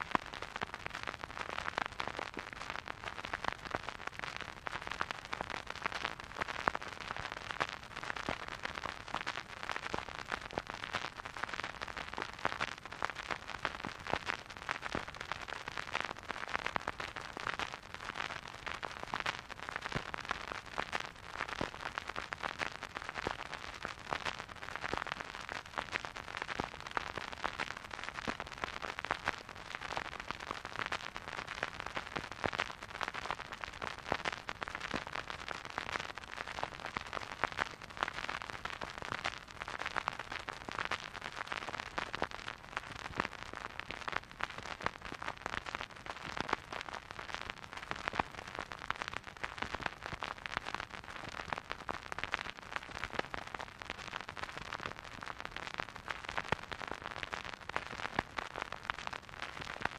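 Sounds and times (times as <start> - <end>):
vinyl record crackle: 0.0 - 59.9.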